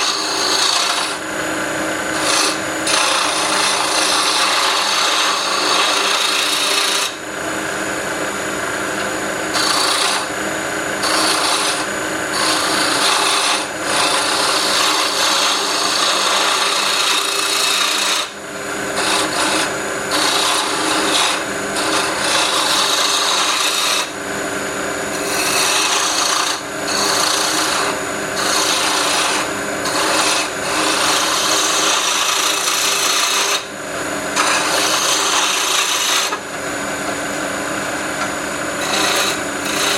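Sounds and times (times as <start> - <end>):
lathe motor humming: 0.0 - 39.9
lathe tool scraping wood: 0.0 - 39.9.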